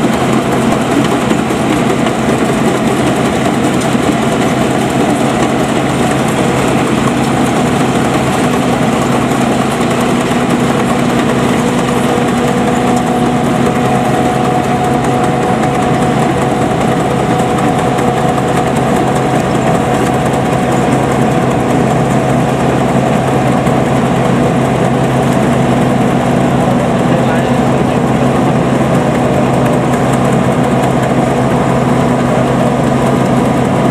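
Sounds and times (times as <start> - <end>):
harvester engine and machinery hum: 0.0 - 33.9.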